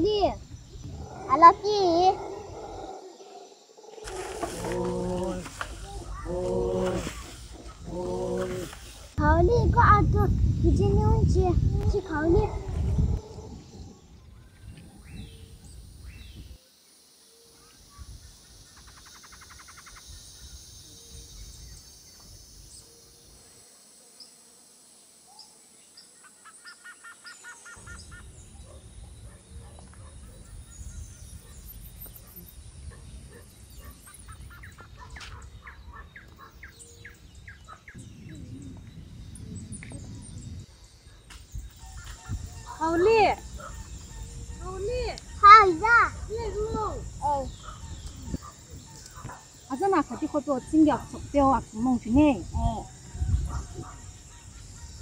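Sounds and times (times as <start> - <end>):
birds chirping and calling: 0.0 - 16.6, 17.3 - 23.1, 25.4 - 55.0.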